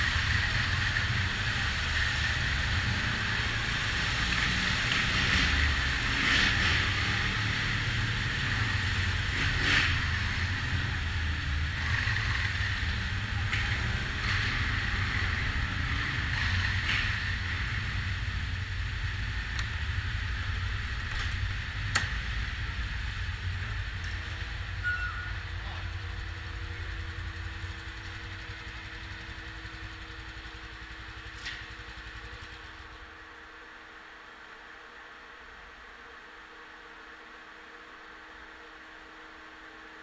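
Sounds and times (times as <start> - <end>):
quad engine running: 0.0 - 33.2.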